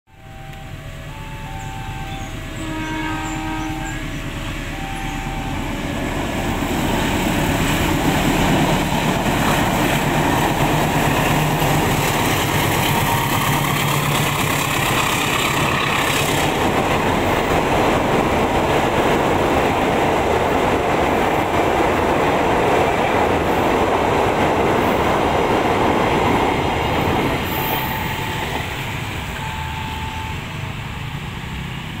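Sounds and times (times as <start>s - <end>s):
level-crossing warning signal: 0.1s - 8.8s, 9.9s - 20.1s, 24.9s - 32.0s
train rumbling over bridge: 0.1s - 32.0s.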